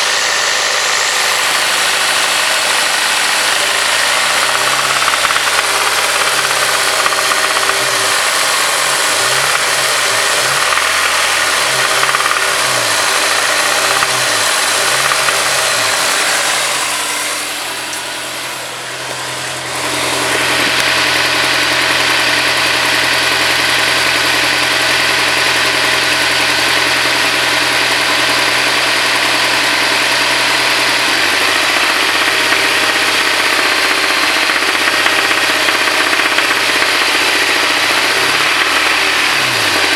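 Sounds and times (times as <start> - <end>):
car engine running with knock: 0.0 - 39.9.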